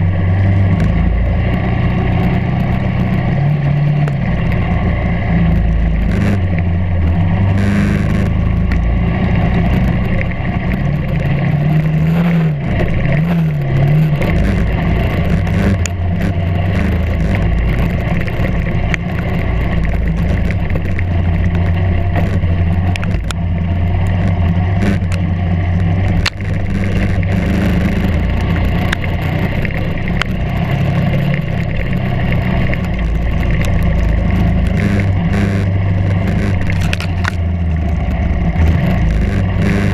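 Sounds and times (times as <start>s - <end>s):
buggy engine running: 0.0s - 39.9s.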